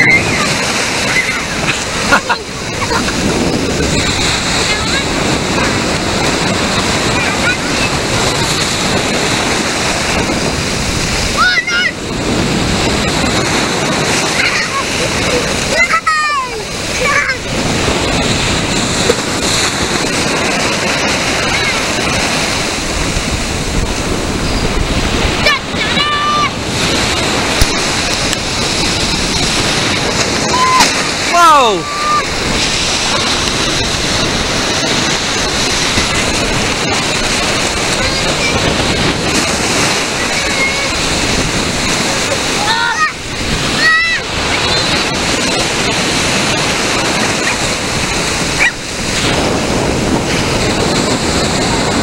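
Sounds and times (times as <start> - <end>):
surf breaking and foaming: 0.0 - 52.0.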